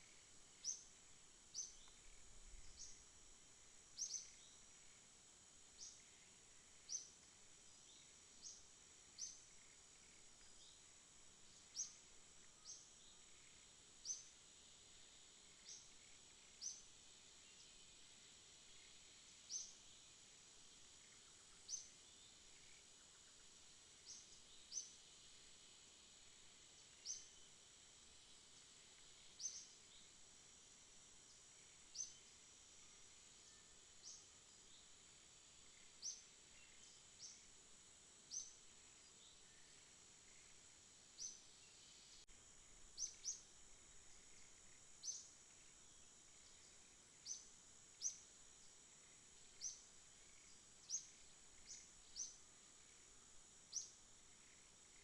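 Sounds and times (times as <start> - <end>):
high-pitched insect hum: 0.0 - 55.0.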